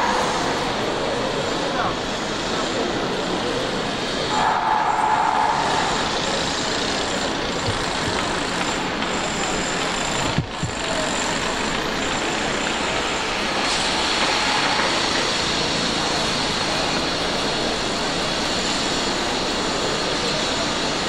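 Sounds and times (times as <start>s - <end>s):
construction machinery running: 0.0s - 21.0s.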